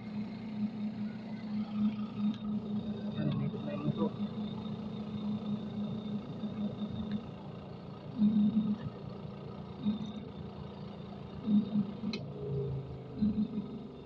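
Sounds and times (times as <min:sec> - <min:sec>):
spin-dryer motor humming: 0:00.0 - 0:14.0.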